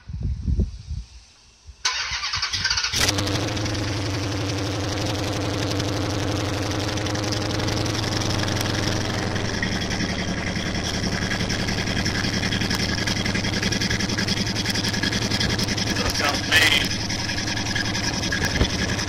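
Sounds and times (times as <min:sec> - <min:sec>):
loud car engine idling: 0:03.0 - 0:19.0.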